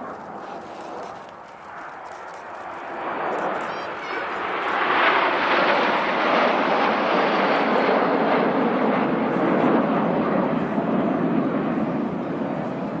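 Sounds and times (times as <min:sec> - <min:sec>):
jets passing: 0:00.0 - 0:13.0.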